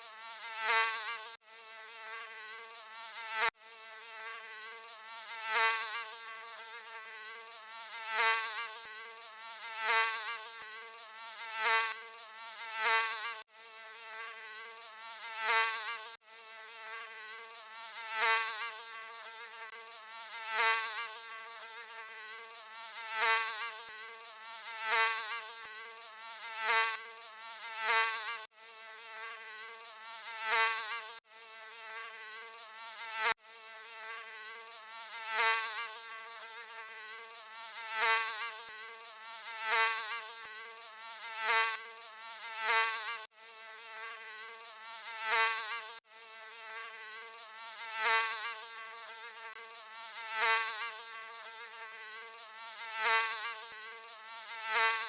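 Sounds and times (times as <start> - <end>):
mosquito buzzing: 0.0 - 55.0.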